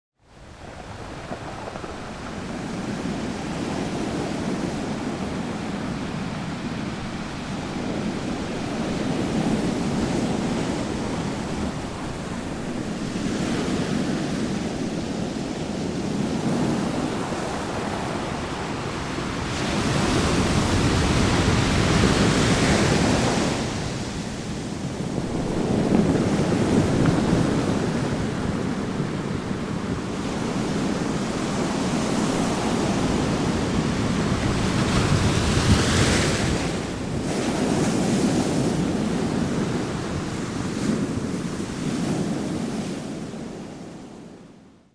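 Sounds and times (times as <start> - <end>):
ocean waves breaking on beach: 0.3 - 44.5.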